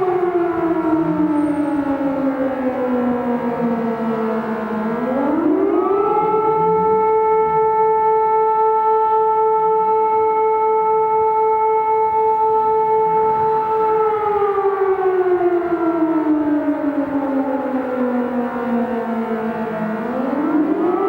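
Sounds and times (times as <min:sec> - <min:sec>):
civil defence siren wailing: 0:00.0 - 0:21.0.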